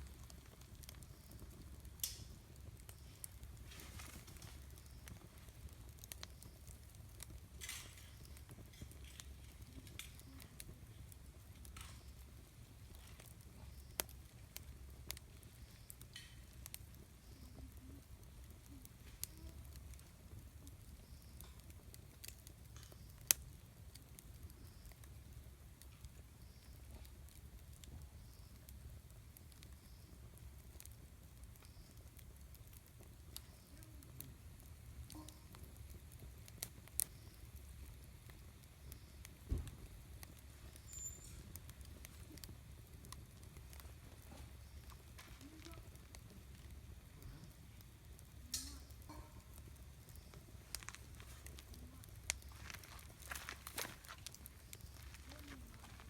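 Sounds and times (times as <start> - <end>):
campfire crackling and popping: 0.0 - 56.0
fire hissing: 0.0 - 56.0
low rumble of fire: 0.0 - 56.0.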